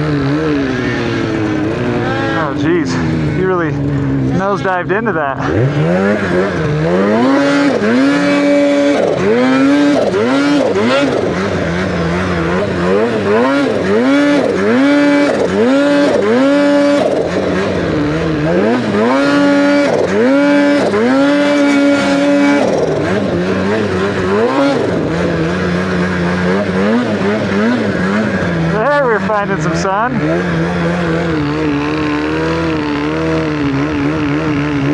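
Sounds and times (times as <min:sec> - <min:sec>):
snowmobile engine revving: 0:00.0 - 0:34.9.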